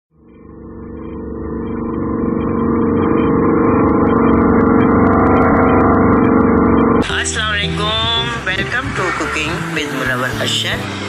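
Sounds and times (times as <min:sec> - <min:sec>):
low humming drone: 0:00.1 - 0:09.2.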